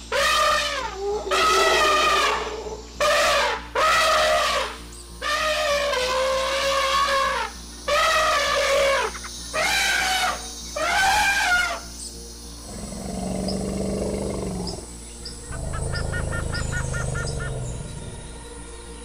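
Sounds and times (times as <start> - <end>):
mammoth calls: 0.0 - 18.5.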